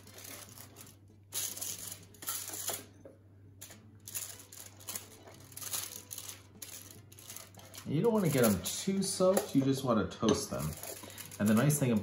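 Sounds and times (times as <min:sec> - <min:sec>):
foil rustling: 0:00.0 - 0:02.9, 0:03.6 - 0:09.8, 0:10.4 - 0:12.0.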